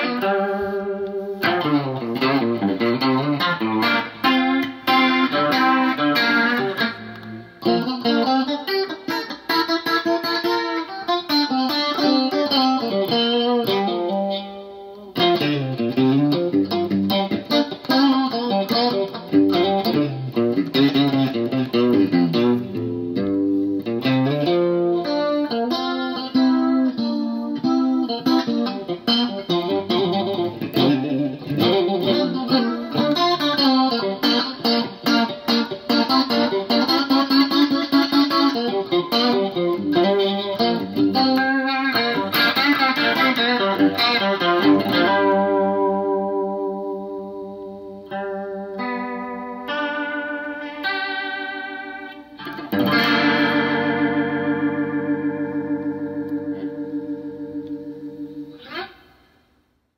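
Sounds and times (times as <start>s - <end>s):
electric guitar with rotary effect: 0.0s - 59.9s.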